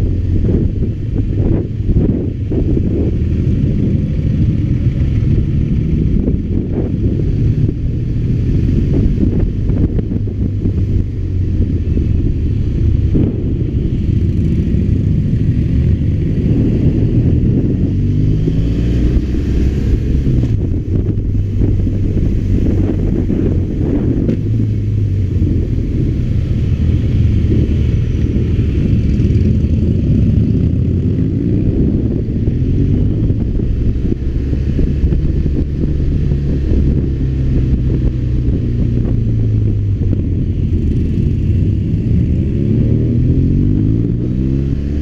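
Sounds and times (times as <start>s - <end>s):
motorcycle engine running: 0.0s - 45.0s
wind noise on microphone: 0.0s - 45.0s.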